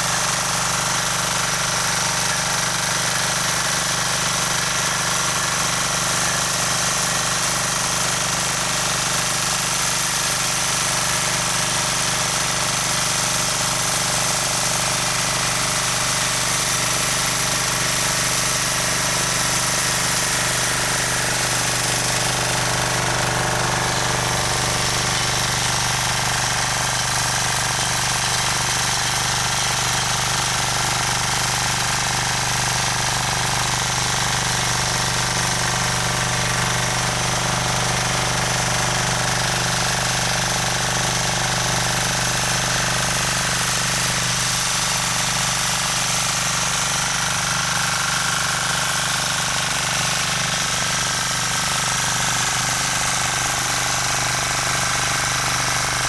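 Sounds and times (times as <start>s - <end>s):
tiller engine running: 0.0s - 56.0s.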